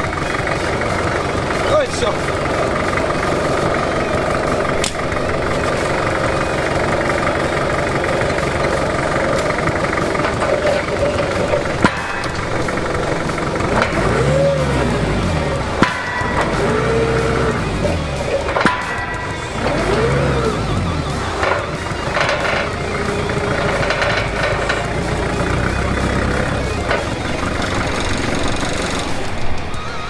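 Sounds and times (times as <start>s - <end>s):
forklift engine revving: 0.0s - 30.0s
sharp metallic knocks: 0.4s - 29.2s.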